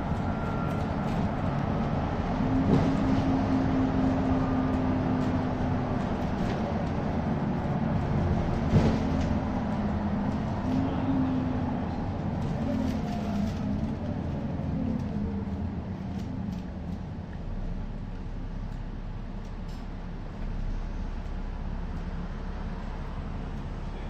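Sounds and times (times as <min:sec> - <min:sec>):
bus engine hum: 0:00.0 - 0:24.0
road rumble: 0:00.0 - 0:24.0.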